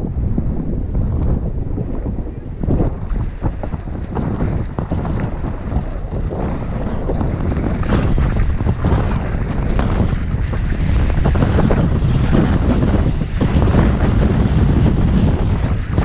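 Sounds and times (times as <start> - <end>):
wind buffeting microphone: 0.0 - 16.0
skis scraping on packed snow: 2.8 - 15.8.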